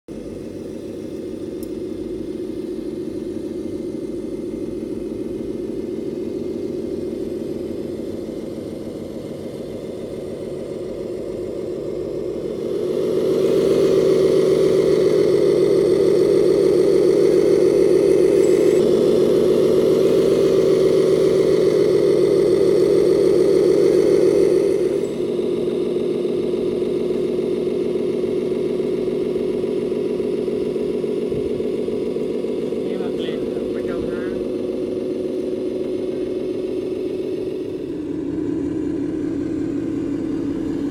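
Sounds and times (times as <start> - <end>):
toy truck engine pulsing: 0.2 - 40.9.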